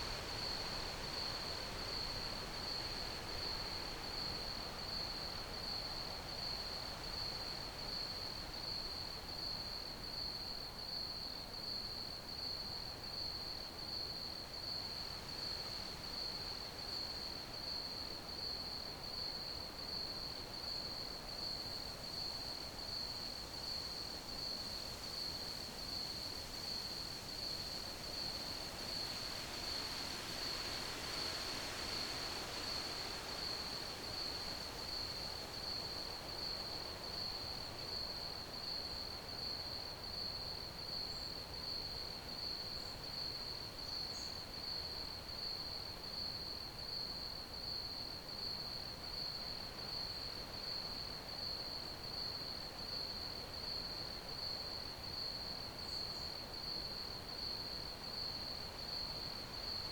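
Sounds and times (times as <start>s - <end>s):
cricket chirping: 12.0s - 59.9s.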